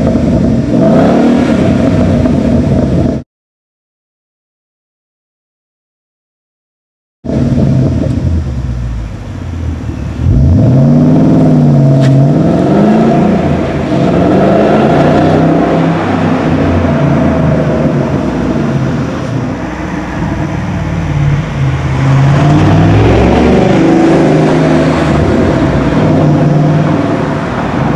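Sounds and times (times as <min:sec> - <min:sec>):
loud car engine revving: 0:00.0 - 0:03.2, 0:07.3 - 0:27.9.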